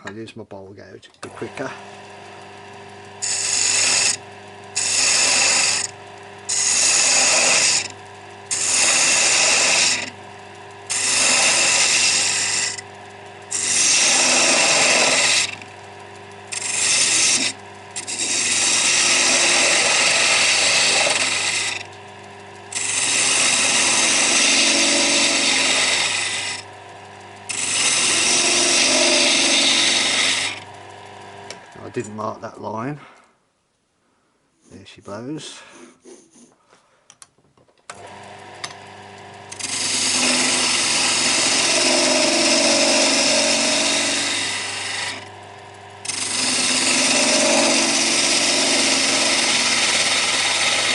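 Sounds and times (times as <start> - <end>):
lathe humming: 1.2 - 32.8, 37.9 - 50.9
gouge scraping spinning wood: 1.3 - 32.7, 35.4 - 36.6, 38.0 - 50.9.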